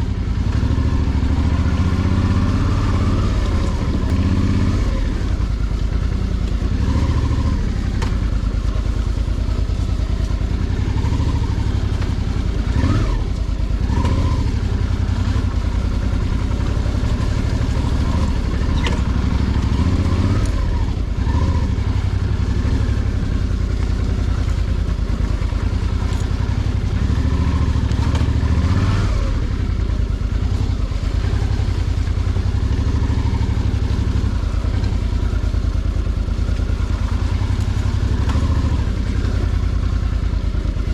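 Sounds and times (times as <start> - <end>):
clatter: 0.0 - 40.9
motorcycle engine revving: 0.0 - 40.9.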